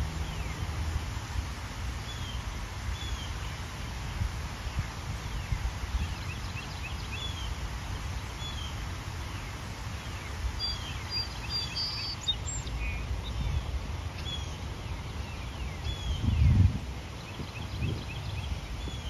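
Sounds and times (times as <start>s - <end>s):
small birds chirping: 2.0s - 19.0s.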